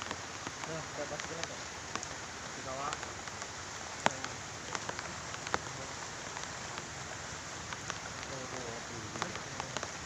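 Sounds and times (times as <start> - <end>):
rain falling steadily: 0.0 - 10.0.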